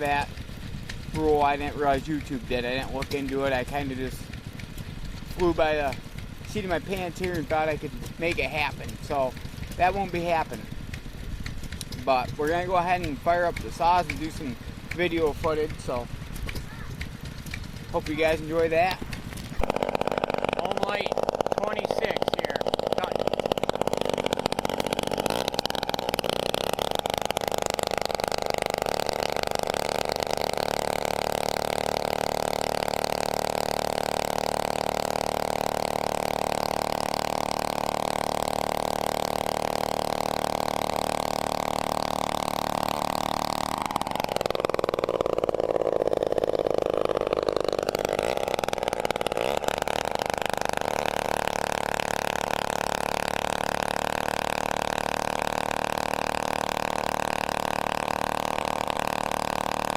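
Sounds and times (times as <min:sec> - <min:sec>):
chainsaw running: 0:00.0 - 0:59.9.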